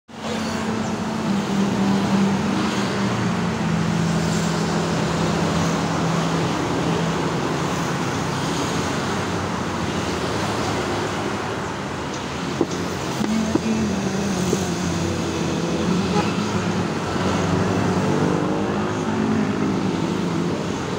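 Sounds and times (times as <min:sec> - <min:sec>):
road traffic noise: 0:00.1 - 0:20.9
low engine hum: 0:00.2 - 0:20.9.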